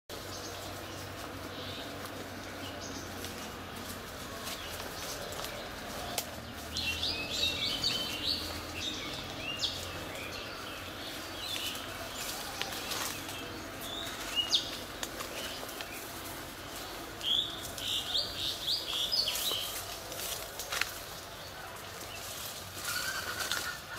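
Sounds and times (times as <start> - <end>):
steady low hum: 0.1 - 22.9
small birds chirping: 0.1 - 23.9.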